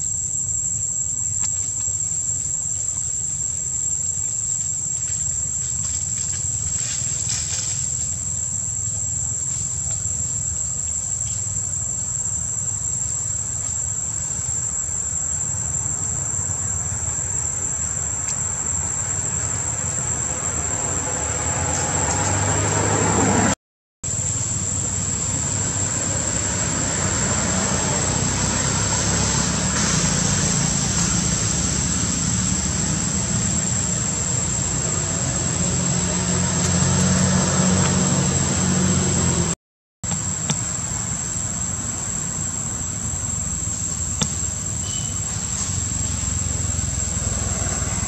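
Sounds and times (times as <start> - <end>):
high-pitched insect drone: 0.0 - 23.5, 24.1 - 48.0.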